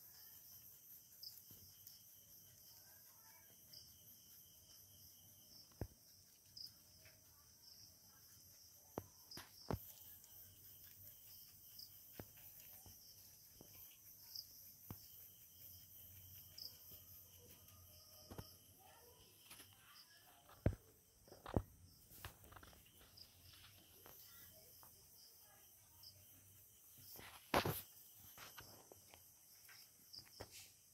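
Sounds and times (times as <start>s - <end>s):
night insects chirring: 0.0s - 30.9s.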